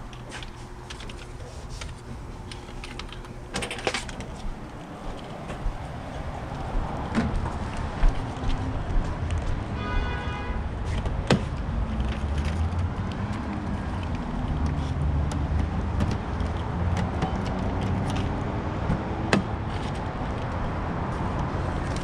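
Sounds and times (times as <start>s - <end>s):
vehicle engine rumbling: 0.0s - 9.7s, 10.6s - 22.0s.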